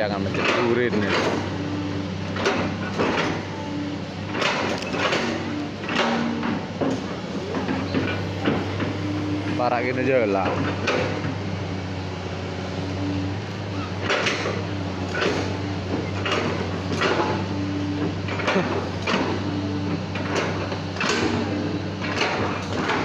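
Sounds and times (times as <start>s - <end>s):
excavator diesel engine running: 0.0s - 23.0s
hydraulic whining tones: 0.0s - 23.0s.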